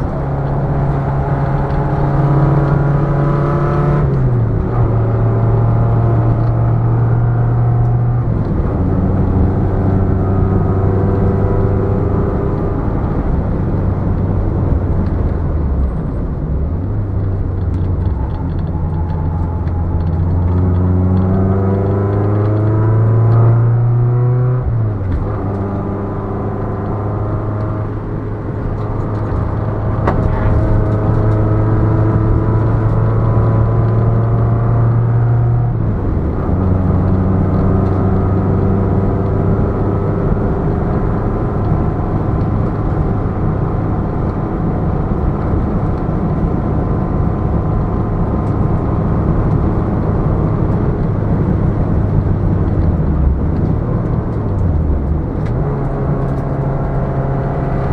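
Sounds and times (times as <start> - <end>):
car engine pulling hard: 0.0 - 57.9.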